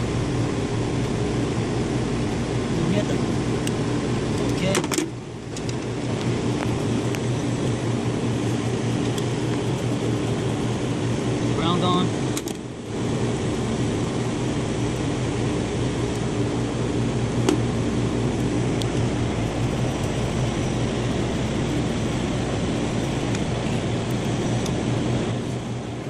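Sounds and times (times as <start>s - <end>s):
hvac machinery humming: 0.0s - 26.0s.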